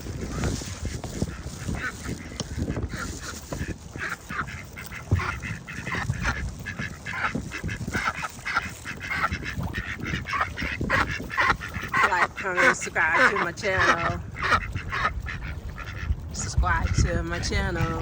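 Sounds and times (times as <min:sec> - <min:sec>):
ducks quacking: 0:00.0 - 0:18.0
wind rumble on microphone: 0:00.0 - 0:18.0.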